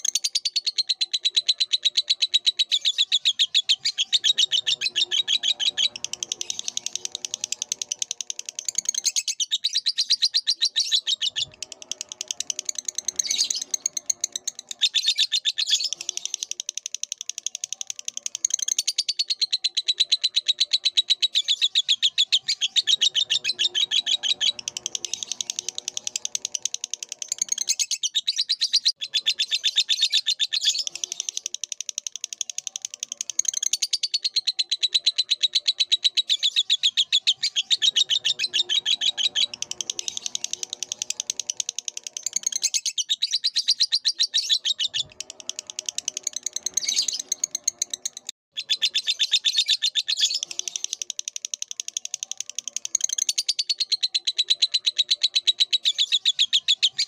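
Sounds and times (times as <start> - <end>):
lower-pitched bird calls: 0.0 - 16.8, 17.4 - 31.5, 32.2 - 51.0
lovebird chattering trill: 0.0 - 57.0.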